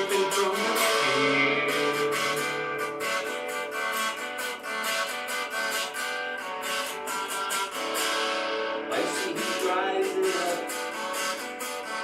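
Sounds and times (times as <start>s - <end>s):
guitar strumming: 0.0s - 12.0s.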